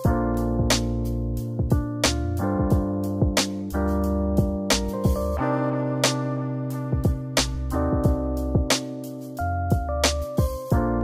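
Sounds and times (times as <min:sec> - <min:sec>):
drum beat with kick and snare: 0:00.0 - 0:05.4, 0:06.9 - 0:11.0
keyboard chords: 0:00.0 - 0:11.0.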